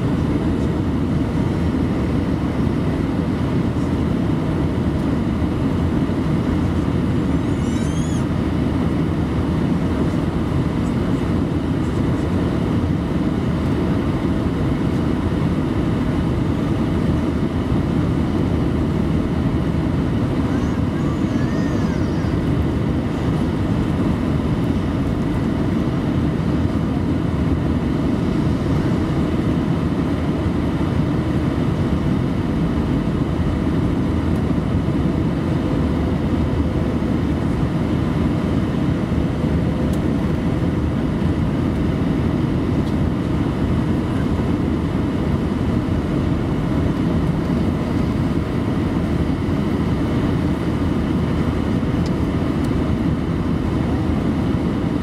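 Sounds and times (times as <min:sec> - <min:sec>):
aircraft cabin engine roar: 0:00.0 - 0:55.0.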